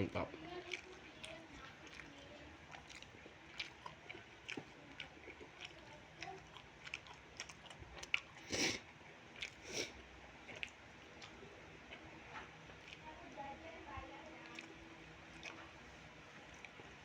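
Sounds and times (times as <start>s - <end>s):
person chewing food: 0.0s - 17.0s
mouth smacking: 0.5s - 12.1s, 12.8s - 13.1s, 14.4s - 17.0s.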